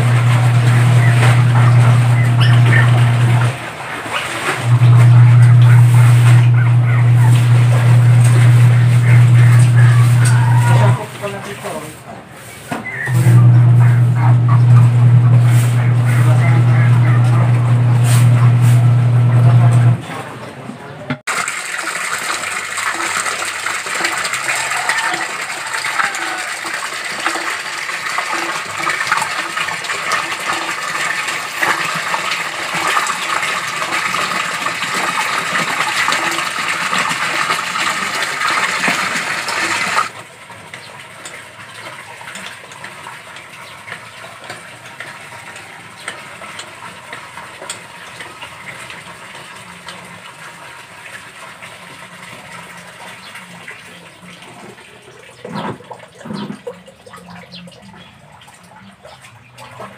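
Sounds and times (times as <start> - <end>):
water splashing into basin: 0.0 - 11.4, 21.3 - 59.9
water gushing from pump spout: 0.0 - 11.9, 12.8 - 20.3, 21.3 - 59.9.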